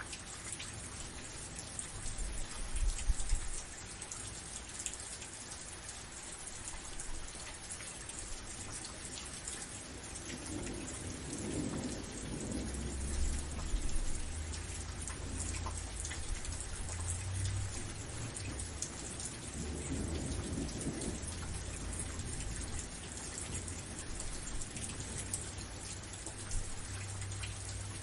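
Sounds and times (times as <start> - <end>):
steady rain: 0.0 - 28.0
low rumble of thunder: 0.8 - 3.7, 8.1 - 28.0.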